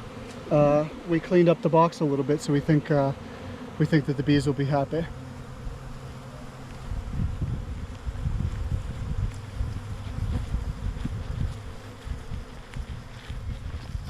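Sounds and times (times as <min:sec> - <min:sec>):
bee swarm buzzing: 0:00.0 - 0:14.0.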